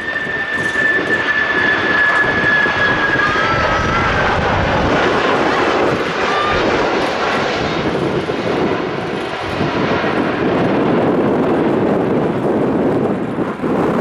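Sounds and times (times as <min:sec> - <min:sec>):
faint whining glides: 0:00.0 - 0:14.0
jet engines running: 0:00.0 - 0:14.0.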